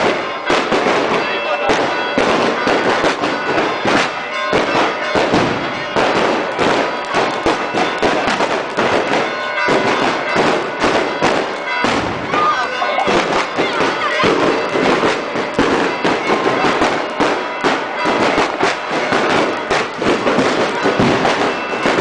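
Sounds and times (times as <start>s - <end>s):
firecrackers cracking and banging: 0.0s - 22.0s
steady ringing tones: 0.0s - 22.0s.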